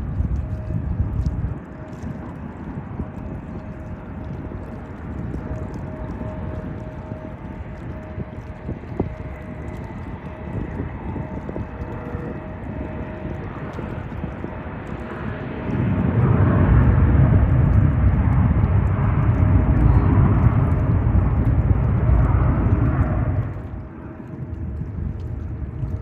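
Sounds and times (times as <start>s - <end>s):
jet airliner engines: 0.0s - 26.0s.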